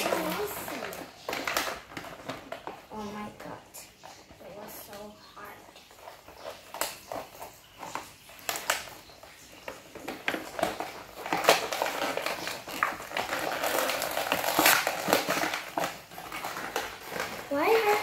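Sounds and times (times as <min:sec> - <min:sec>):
plastic packaging crackling: 0:00.0 - 0:18.0.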